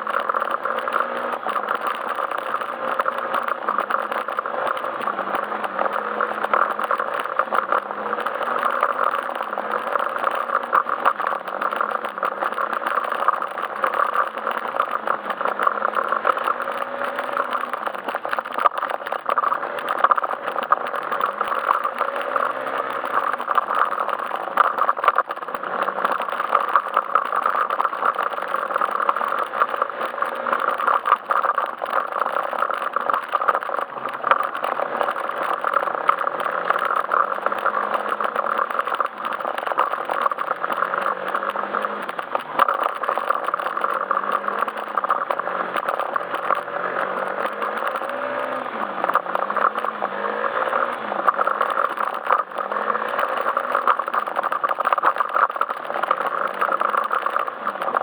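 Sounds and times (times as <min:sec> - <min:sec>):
scooter engine running: 0:00.0 - 0:58.0
wind and road noise: 0:00.0 - 0:58.0.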